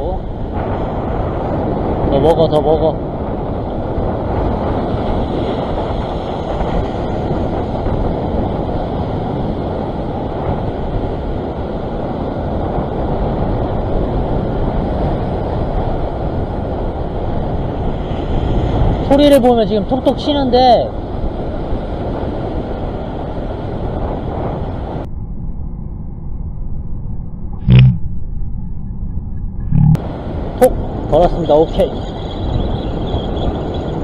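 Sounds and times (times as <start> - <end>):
wind on microphone: 0.0 - 34.0.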